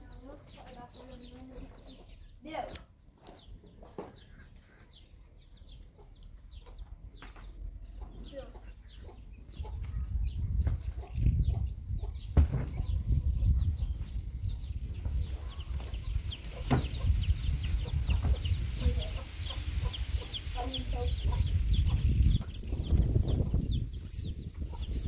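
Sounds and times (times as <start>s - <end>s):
chicks peeping: 0.0s - 25.0s
chickens clucking: 0.1s - 2.3s, 3.2s - 25.0s.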